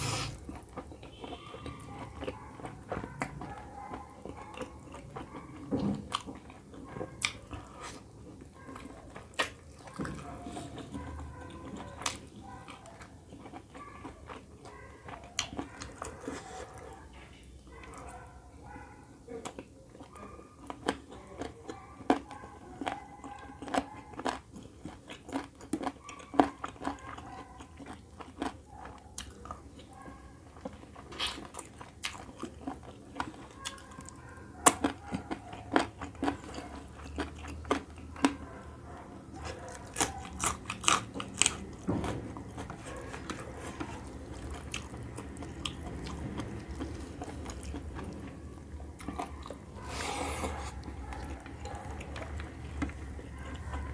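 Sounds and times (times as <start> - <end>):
chewing with wet mouth clicks: 0.1 - 17.1, 19.4 - 53.9.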